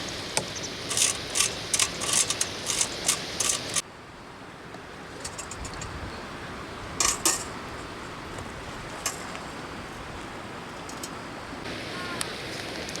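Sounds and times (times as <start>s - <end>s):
river water rushing: 0.0s - 5.5s, 6.1s - 13.0s.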